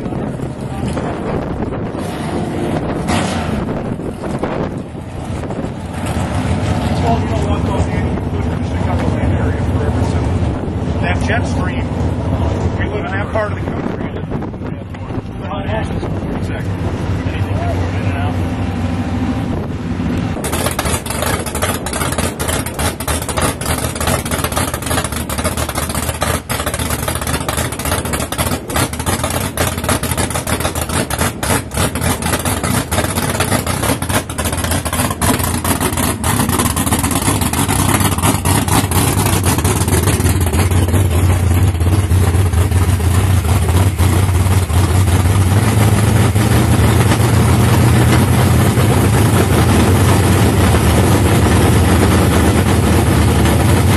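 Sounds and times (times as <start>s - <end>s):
race car engine idling loudly: 0.0s - 53.9s.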